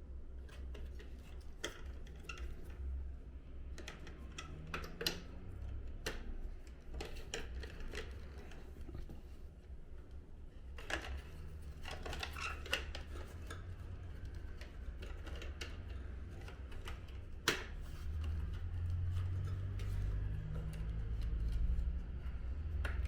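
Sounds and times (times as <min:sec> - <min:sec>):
plastic and metal parts clicking: 0:00.4 - 0:09.4, 0:10.6 - 0:23.0.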